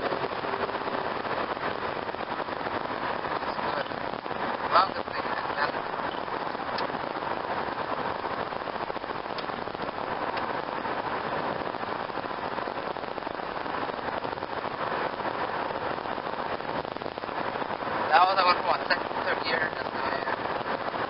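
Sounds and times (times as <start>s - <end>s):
road and wind noise in car cabin: 0.0s - 21.0s.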